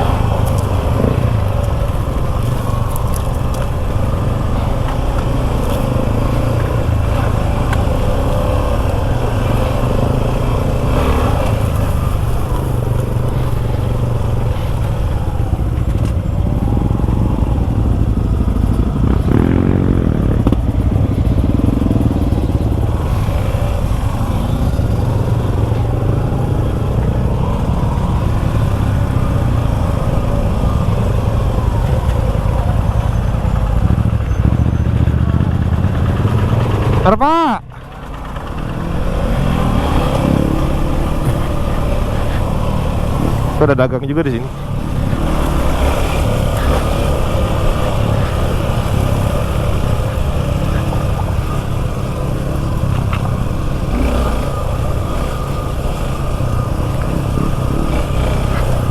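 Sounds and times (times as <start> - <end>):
motorcycle engine running: 0.0 - 58.9
wind and road rumble: 0.0 - 58.9.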